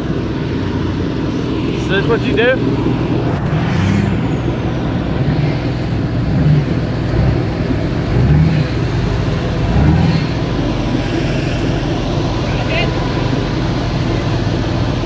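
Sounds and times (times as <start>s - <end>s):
vehicle engine running under load: 0.0s - 15.0s.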